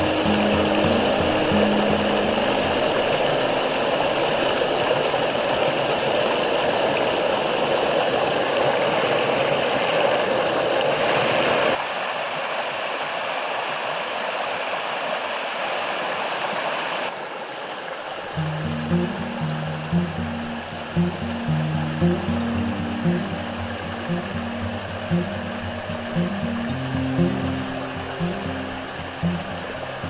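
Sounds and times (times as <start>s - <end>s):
stream rushing over boulders: 0.0s - 30.0s.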